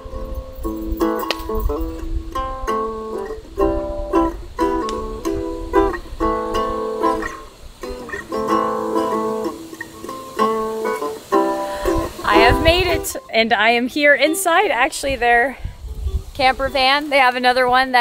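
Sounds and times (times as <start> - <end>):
acoustic guitar chords: 0.0 - 17.3.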